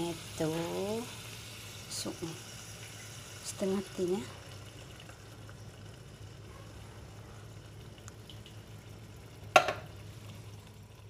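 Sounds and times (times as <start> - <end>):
soup trickling into a metal pot: 0.0 - 11.0.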